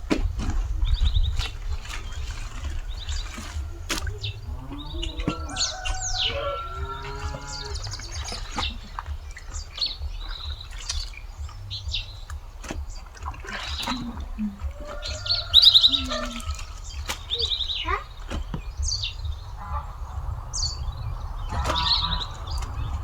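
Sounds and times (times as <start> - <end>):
birds chirping and trilling: 0.0 - 23.0
low animal calls: 0.5 - 23.0.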